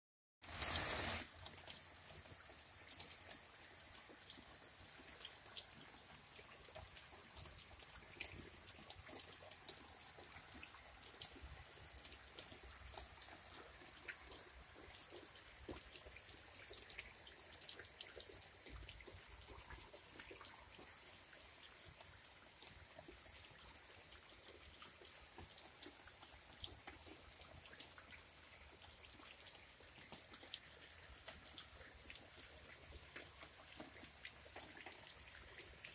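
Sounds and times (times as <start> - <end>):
steady rain: 0.4 - 35.9
drips ticking close by: 1.3 - 35.9.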